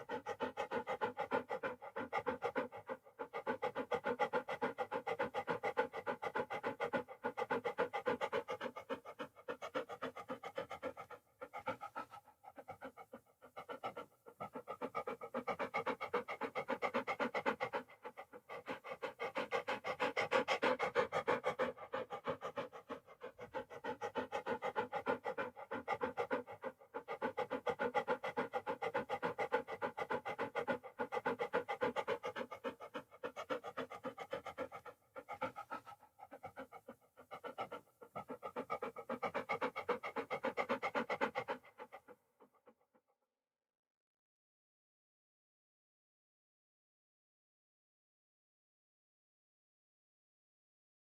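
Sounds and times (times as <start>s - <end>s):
dog panting: 0.0s - 42.9s.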